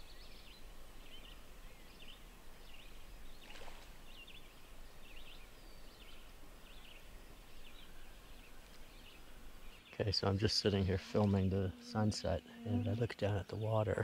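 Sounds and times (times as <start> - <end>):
faint birdsong chirping: 0.0 - 14.0.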